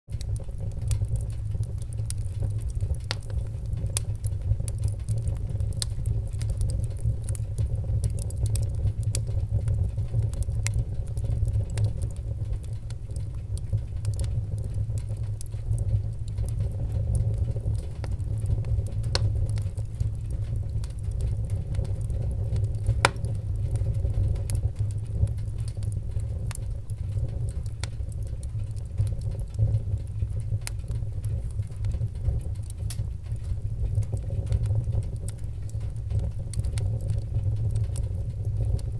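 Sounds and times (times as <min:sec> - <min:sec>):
fire crackling: 0:00.1 - 0:38.9
fire rumbling: 0:00.1 - 0:38.9.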